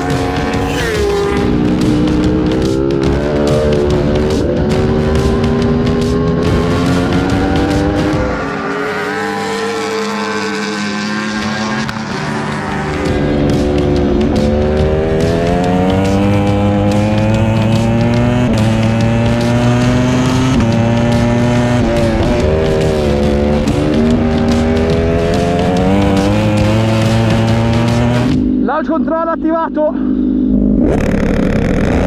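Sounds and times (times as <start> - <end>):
motorcycle engine at racing speed: 0.0 - 28.9, 30.0 - 32.0
gear downshifts: 0.0 - 32.0.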